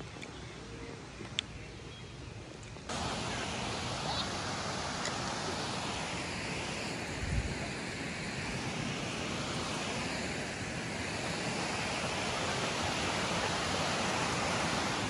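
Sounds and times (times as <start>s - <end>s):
creek rapids: 2.9s - 15.0s
waterfall rushing: 2.9s - 15.0s.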